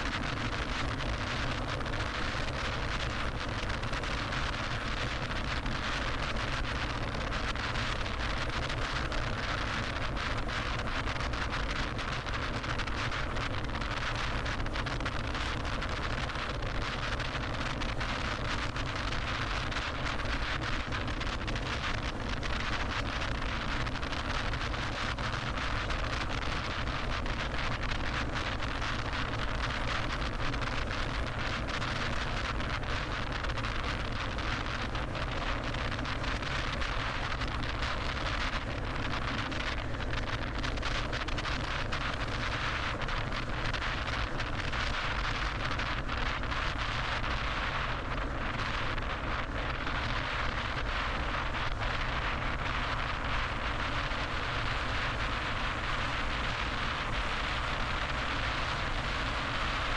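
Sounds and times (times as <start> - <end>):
car road and wind noise: 0.0 - 59.9.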